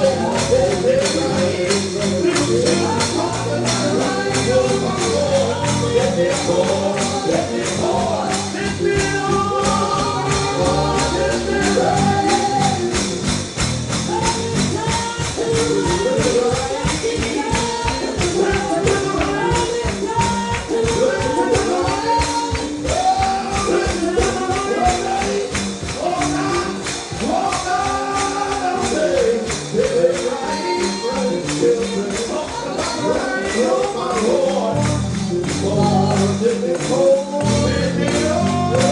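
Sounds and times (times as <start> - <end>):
gospel singing: 0.0 - 38.9
tambourine beat: 0.0 - 38.9.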